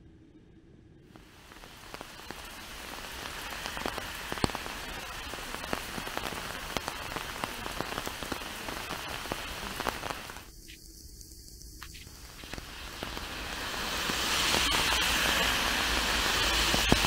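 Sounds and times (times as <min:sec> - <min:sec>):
raindrops ticking close by: 0:01.2 - 0:17.0
steady rain falling: 0:01.2 - 0:17.0.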